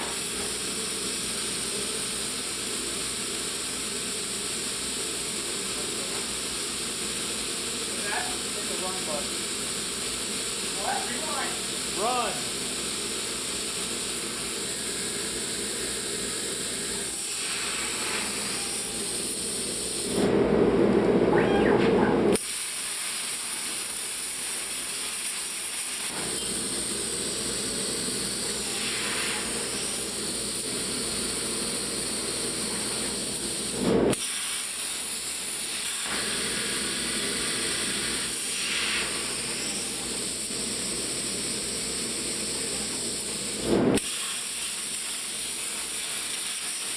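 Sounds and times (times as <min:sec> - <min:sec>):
plasma cutter torch hissing: 0:00.0 - 0:20.3, 0:22.3 - 0:46.9.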